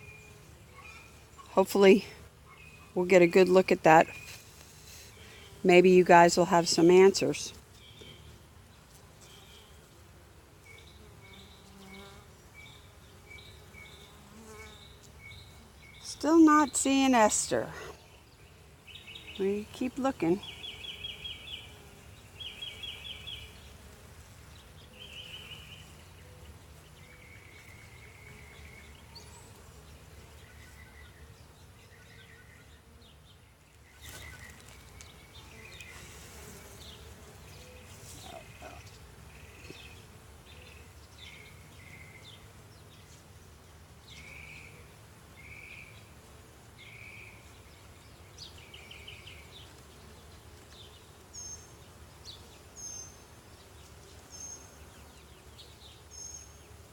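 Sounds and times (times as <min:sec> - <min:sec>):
bees humming: 0:00.0 - 0:56.9.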